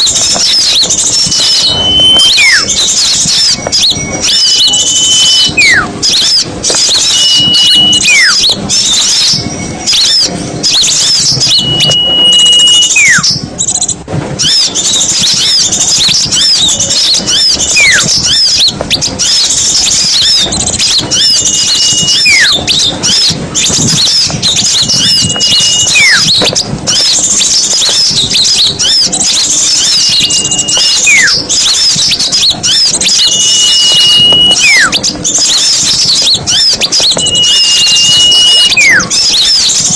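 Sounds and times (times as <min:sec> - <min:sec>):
small birds chattering: 0:00.0 - 0:39.9
whistle falling in pitch: 0:00.4 - 0:13.4, 0:14.4 - 0:23.4, 0:24.0 - 0:27.0, 0:27.9 - 0:35.0, 0:35.6 - 0:39.8.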